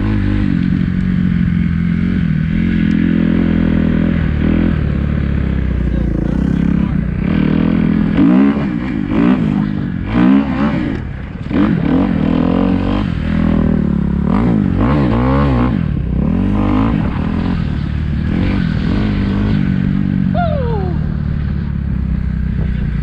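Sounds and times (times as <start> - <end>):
dirt bike engine revving: 0.0 - 22.3.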